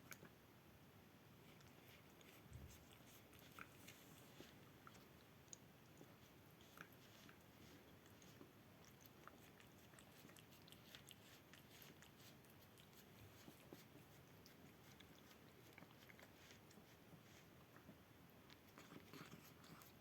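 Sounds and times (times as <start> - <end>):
cat licking a plate: 1.4 - 20.0.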